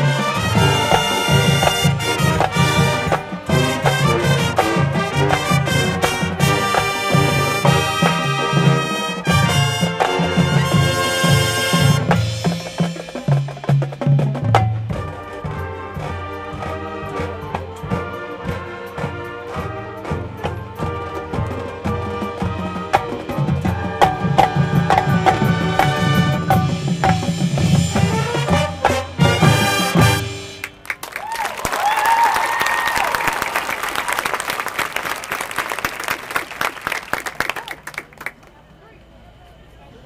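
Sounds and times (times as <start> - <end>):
marching band playing: 0.0 - 37.6.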